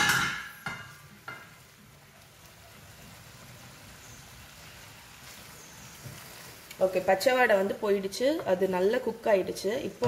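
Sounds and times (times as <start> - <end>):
gravy sizzling and bubbling: 0.0 - 10.0.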